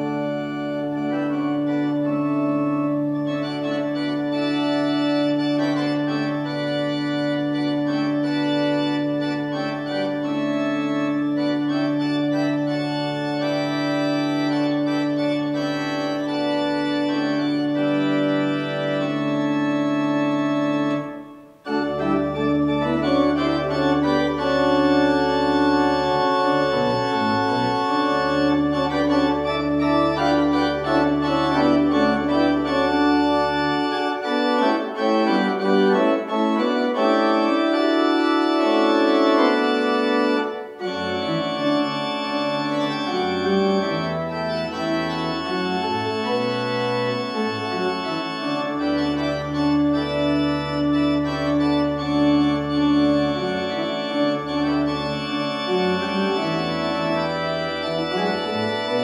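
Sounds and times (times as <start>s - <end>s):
deep organ pedal bass: 0.0s - 59.0s
organ chords: 0.0s - 59.0s.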